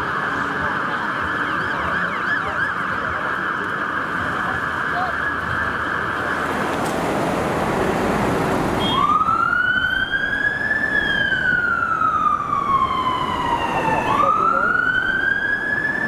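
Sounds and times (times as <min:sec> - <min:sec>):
city traffic noise: 0:00.0 - 0:16.0
distant siren tone: 0:00.0 - 0:16.0
fire engine siren wailing: 0:00.0 - 0:16.0.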